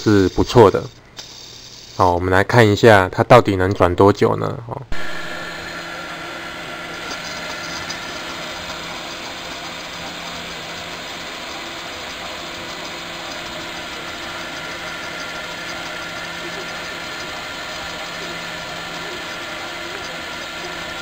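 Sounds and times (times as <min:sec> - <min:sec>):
filament spool whirring: 0:00.0 - 0:02.1, 0:04.9 - 0:21.0.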